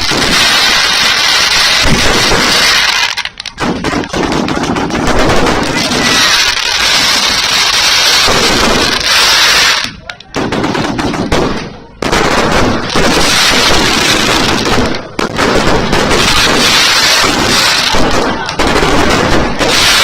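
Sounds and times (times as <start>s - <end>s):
fireworks crackling rapidly: 0.0s - 20.0s.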